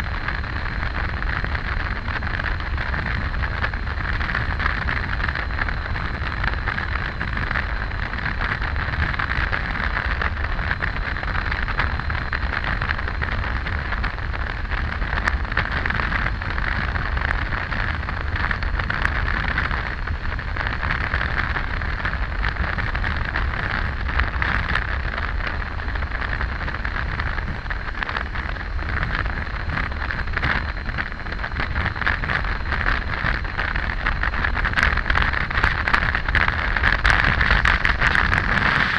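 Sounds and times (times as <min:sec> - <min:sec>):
motorcycle engine and tyres drone: 0:00.0 - 0:38.9
wind rushing over microphone: 0:00.0 - 0:38.9.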